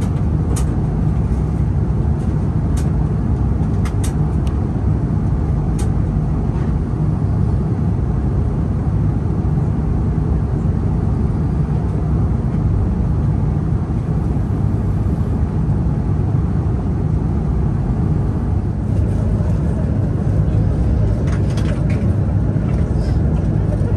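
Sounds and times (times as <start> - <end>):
airliner cabin drone: 0.0 - 23.9.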